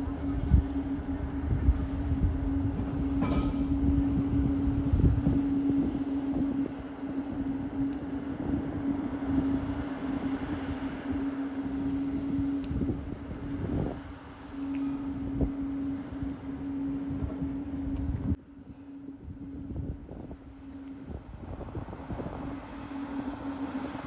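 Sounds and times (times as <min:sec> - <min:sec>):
low rumble: 0:00.0 - 0:24.0
steady mechanical hum: 0:00.0 - 0:24.0.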